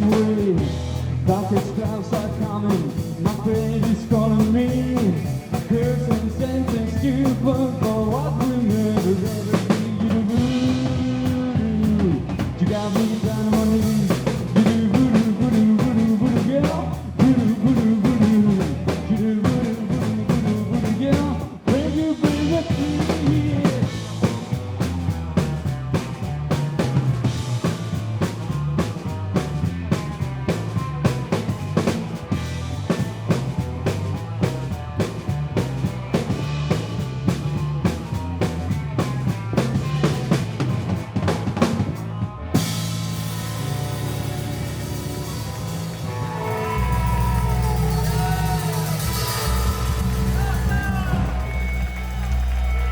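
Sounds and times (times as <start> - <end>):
bending lead guitar line: 0.0 - 52.9
drum kit beat: 0.0 - 52.9
rock band playing live: 0.0 - 52.9.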